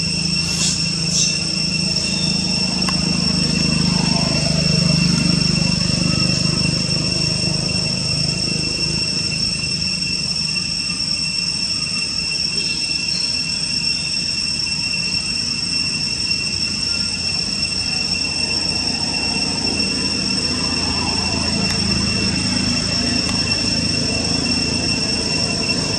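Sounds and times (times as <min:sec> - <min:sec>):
high-pitched insect drone: 0:00.0 - 0:25.9.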